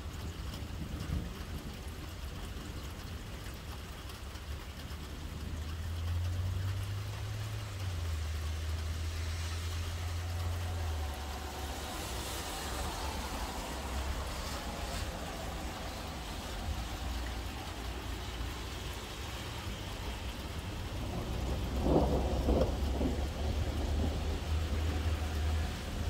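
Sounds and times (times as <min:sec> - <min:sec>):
rain hissing: 0:00.0 - 0:26.0
thunder rumbling: 0:00.0 - 0:26.0.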